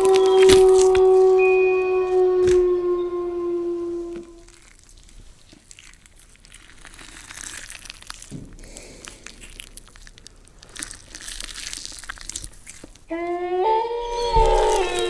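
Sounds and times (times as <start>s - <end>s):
crackling and crinkling: 0.0s - 15.0s.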